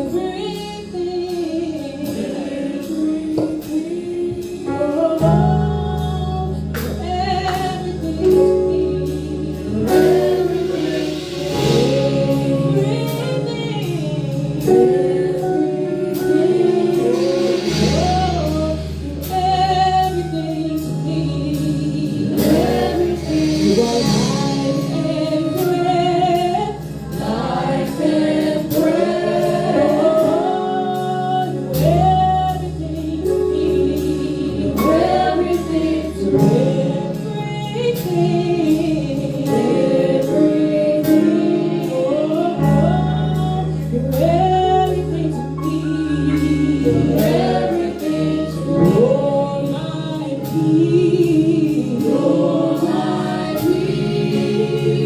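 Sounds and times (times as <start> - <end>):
live band with steady beat: 0.0 - 55.0
long held bass notes: 0.0 - 55.0
choir singing: 1.6 - 5.4, 7.6 - 32.0, 32.6 - 55.0.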